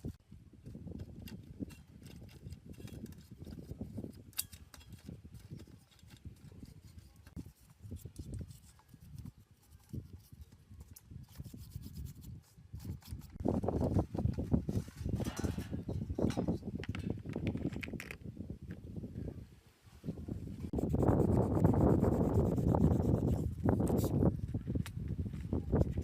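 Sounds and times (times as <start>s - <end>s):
hand rubbing and scraping: 1.0s - 18.2s, 20.5s - 26.0s.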